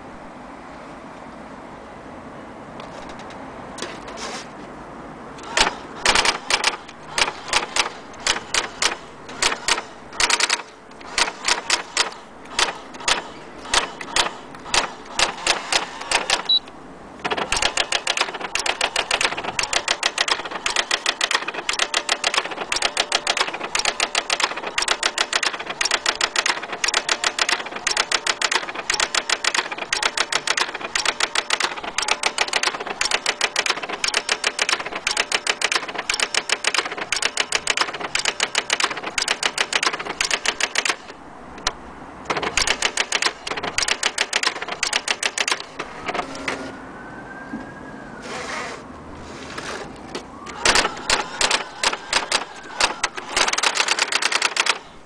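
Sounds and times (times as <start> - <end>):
typewriter striking characters: 5.4 - 46.4, 50.5 - 55.0.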